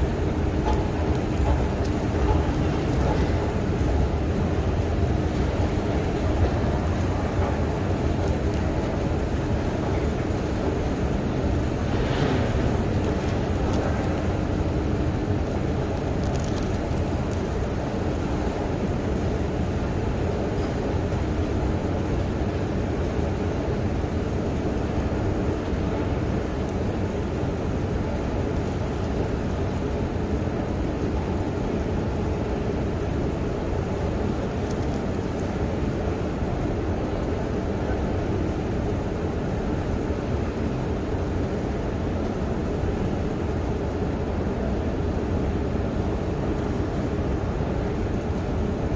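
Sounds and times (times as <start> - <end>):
escalator rumble and hum: 0.0 - 48.9.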